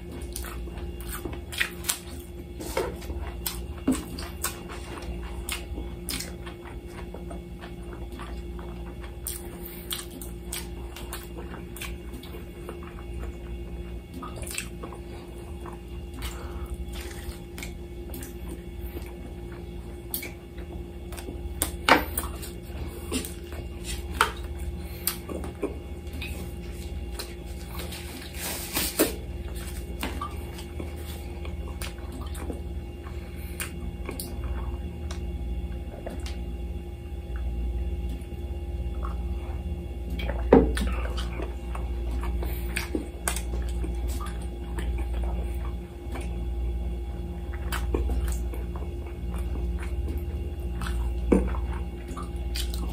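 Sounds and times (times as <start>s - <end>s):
steady low hum: 0.0s - 52.9s
wet chewing and mouth smacks: 0.0s - 52.9s.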